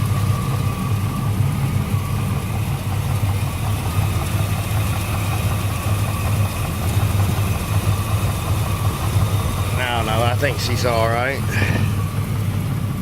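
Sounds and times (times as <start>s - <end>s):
truck engine idling lumpily: 0.0s - 13.0s.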